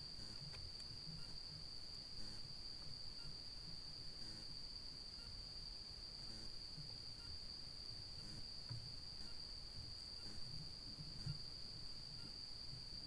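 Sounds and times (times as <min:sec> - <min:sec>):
insect high-pitched trill: 0:00.0 - 0:13.0.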